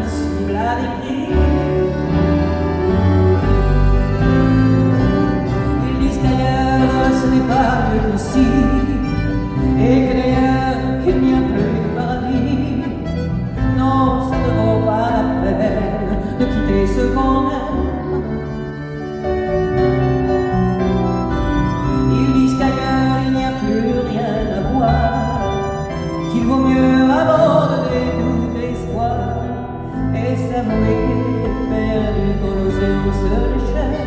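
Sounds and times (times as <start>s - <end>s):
woman singing: 0.0s - 3.0s, 5.7s - 18.7s, 21.9s - 34.0s
piano accompaniment: 0.0s - 34.0s.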